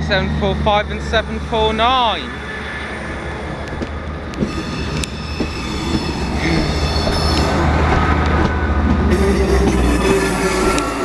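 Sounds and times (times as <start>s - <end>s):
diesel engine drone: 0.0s - 11.0s
high wheel squeal: 0.7s - 11.0s.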